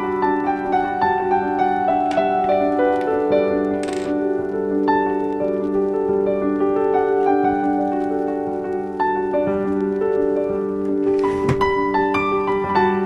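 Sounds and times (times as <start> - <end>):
piano playing held chords: 0.0 - 13.0.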